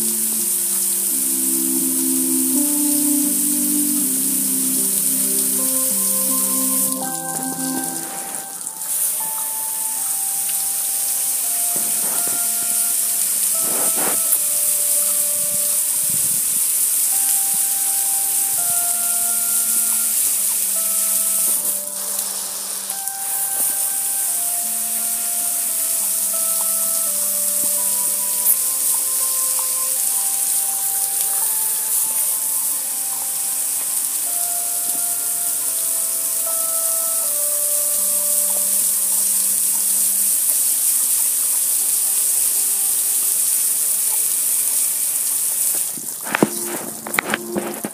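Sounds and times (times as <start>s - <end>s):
slow melody of held notes: 0.0s - 47.9s
water spray hissing on metal grill: 0.0s - 47.9s.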